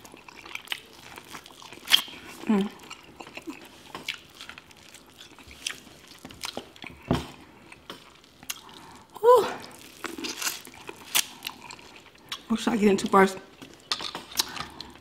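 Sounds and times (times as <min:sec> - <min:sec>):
wet chewing and lip smacks: 0:00.0 - 0:07.0, 0:07.6 - 0:09.0, 0:09.7 - 0:12.5, 0:13.6 - 0:15.0.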